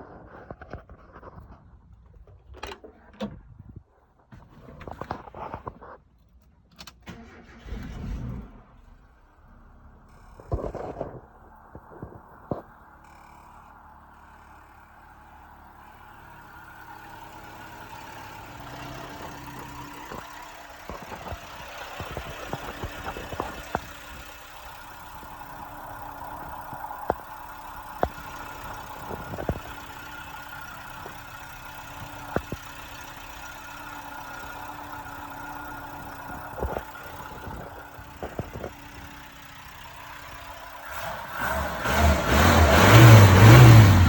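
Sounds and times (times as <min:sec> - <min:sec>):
car engine idling: 0:04.3 - 0:44.0.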